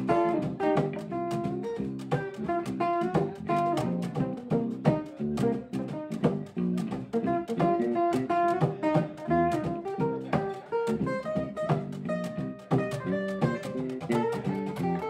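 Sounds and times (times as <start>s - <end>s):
picked acoustic guitar: 0.0s - 15.0s.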